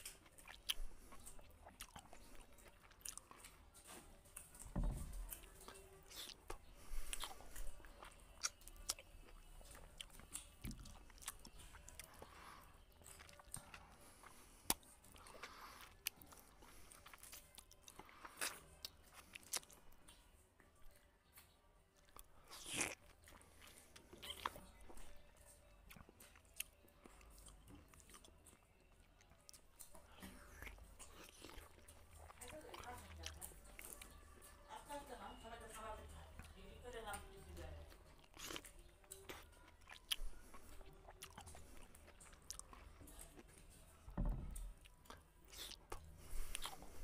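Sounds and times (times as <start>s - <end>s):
man chewing food: 0.0s - 47.0s.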